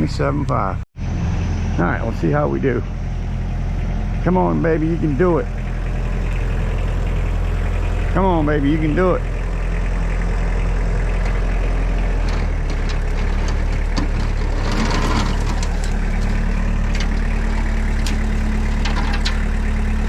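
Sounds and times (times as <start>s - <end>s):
engine running under load: 0.0s - 20.0s.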